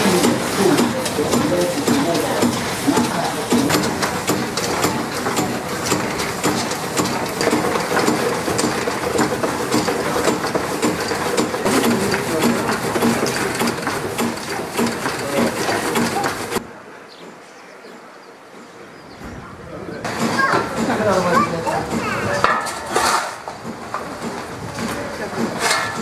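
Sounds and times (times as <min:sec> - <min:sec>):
steam engines clattering: 0:00.0 - 0:26.0.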